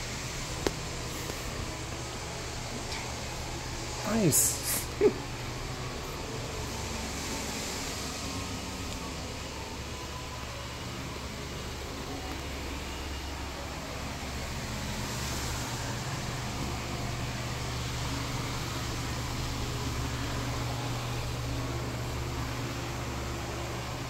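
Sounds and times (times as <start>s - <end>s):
low electrical fan drone: 0.0s - 24.0s.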